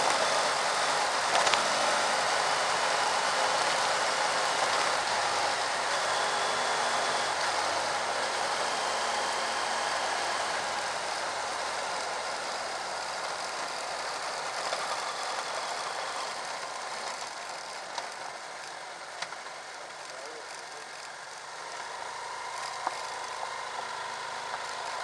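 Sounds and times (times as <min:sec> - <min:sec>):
motorcycle engine: 0:00.0 - 0:25.0.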